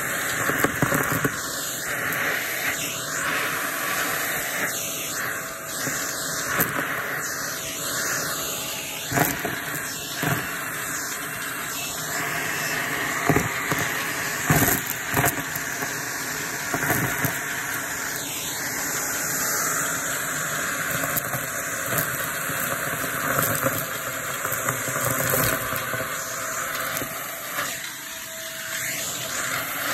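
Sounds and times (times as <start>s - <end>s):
debris crackling in vacuum: 0.0s - 28.0s
vacuum cleaner running: 0.0s - 29.9s.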